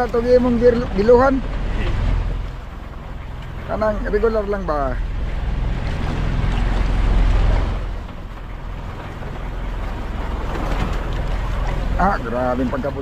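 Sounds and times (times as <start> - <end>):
waves washing against boat: 0.0 - 13.0.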